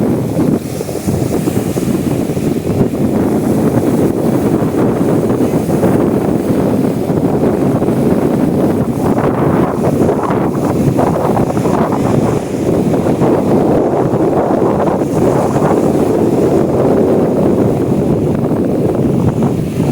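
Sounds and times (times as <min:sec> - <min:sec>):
sea waves rushing: 0:00.0 - 0:19.9
wind buffeting microphone: 0:00.0 - 0:19.9.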